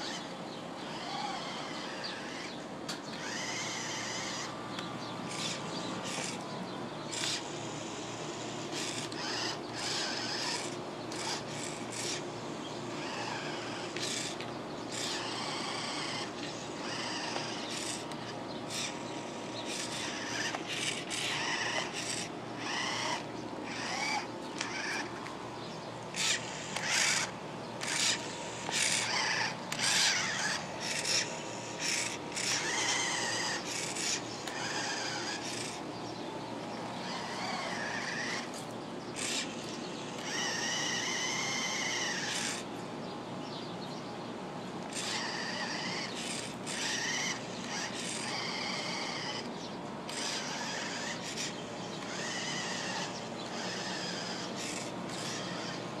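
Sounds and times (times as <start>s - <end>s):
toy car electric motor whirring: 0.0s - 25.3s, 26.1s - 35.9s, 37.0s - 42.7s, 44.8s - 56.0s.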